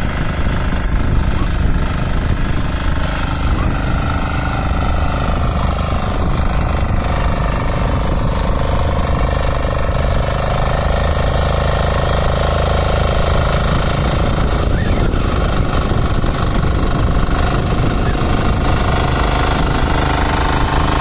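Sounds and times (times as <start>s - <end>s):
diesel engine pulsing under load: 0.0s - 21.0s.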